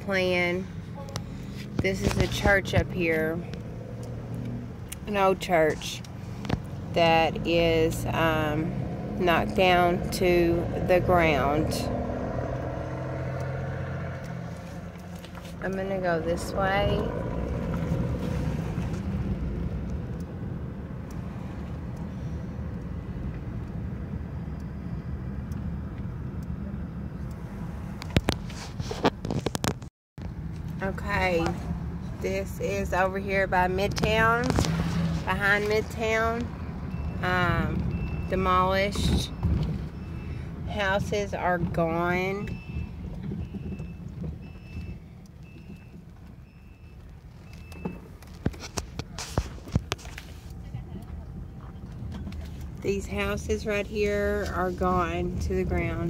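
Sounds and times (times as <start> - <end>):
car cabin road noise: 0.0 - 56.0.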